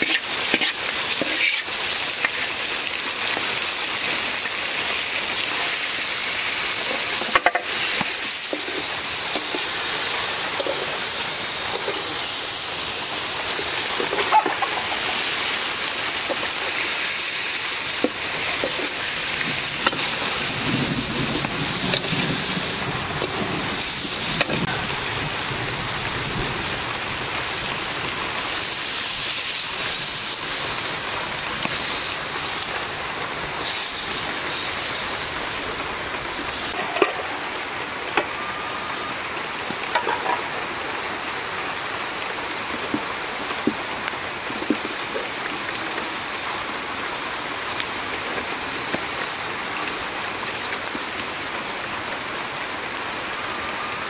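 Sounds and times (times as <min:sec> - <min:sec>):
fish curry sizzling in oil: 0:00.0 - 0:24.8, 0:27.0 - 0:52.2.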